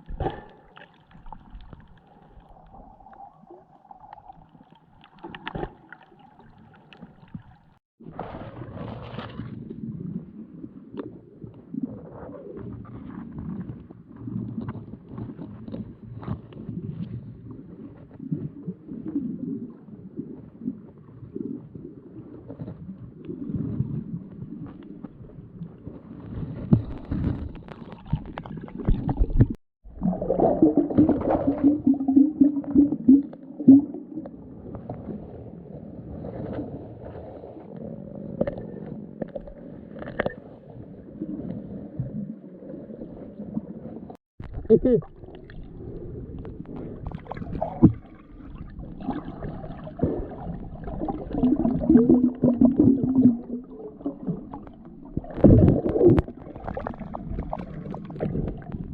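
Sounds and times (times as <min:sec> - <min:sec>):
muffled gurgling water underwater: 0:00.0 - 0:58.9.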